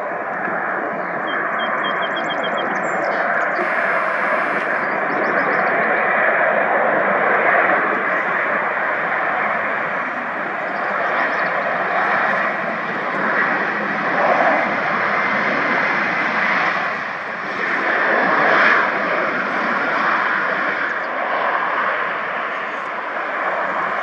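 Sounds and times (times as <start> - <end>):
aircraft engine drone: 0.0 - 24.0.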